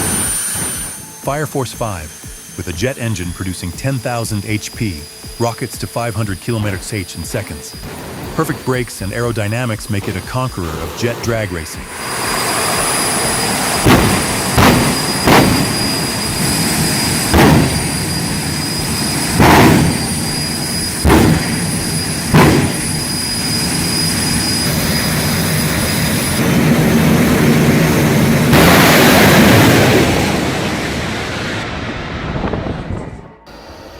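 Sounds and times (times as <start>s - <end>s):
jet engine loud bursts: 0.0s - 33.9s
jet engine whine and rush: 0.0s - 33.9s.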